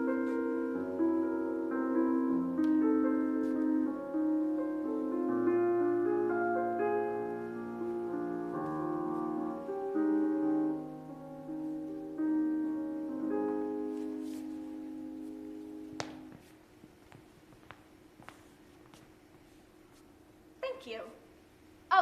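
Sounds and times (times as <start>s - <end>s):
slow piano music: 0.0s - 18.6s.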